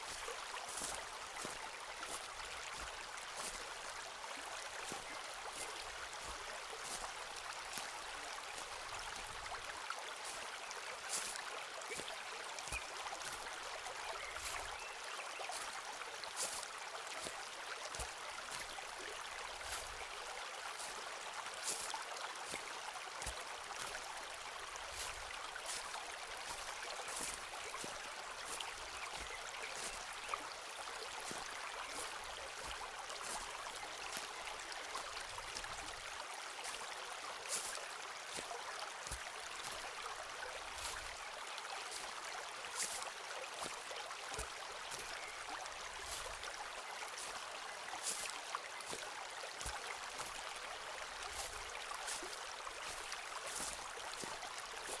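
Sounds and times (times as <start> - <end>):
footsteps crunching on forest floor: 0.0 - 55.0.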